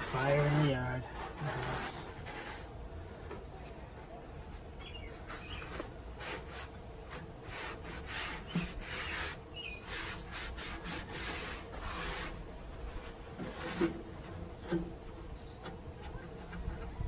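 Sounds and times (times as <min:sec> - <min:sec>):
paper towels scraping metal: 0:00.0 - 0:03.4, 0:04.8 - 0:17.0.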